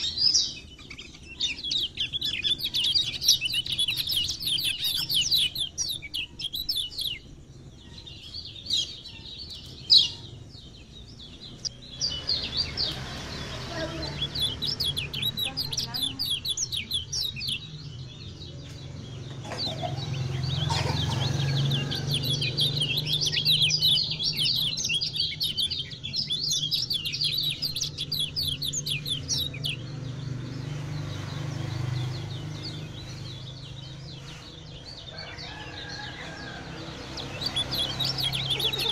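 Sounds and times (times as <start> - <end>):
birds twittering chirps: 0.0 - 38.9.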